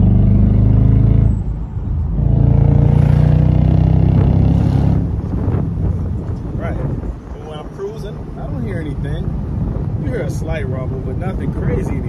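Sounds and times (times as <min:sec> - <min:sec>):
car exhaust under hard acceleration: 0:00.0 - 0:12.0.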